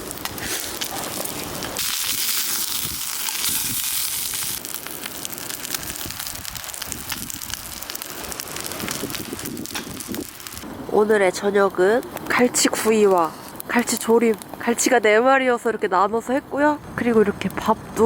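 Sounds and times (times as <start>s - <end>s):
sizzling hiss: 0.0s - 15.8s
wood fire crackling: 0.0s - 16.4s.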